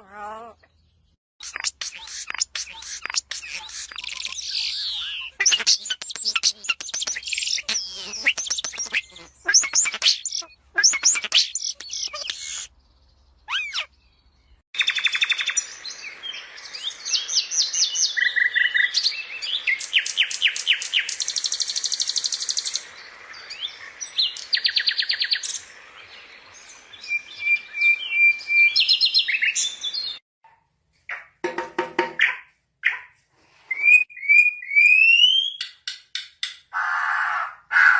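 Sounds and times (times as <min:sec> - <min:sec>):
birds singing and calling: 0:00.0 - 0:30.2, 0:33.8 - 0:37.9.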